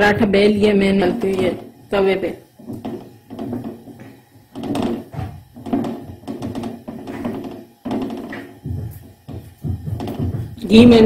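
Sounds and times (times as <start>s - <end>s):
hand patting dough on pan: 0.0s - 11.0s.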